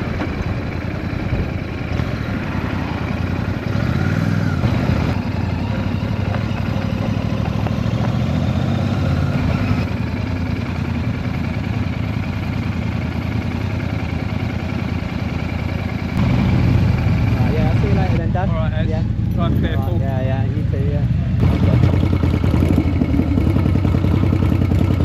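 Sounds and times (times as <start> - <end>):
motorcycle engine at low revs: 0.0 - 25.0.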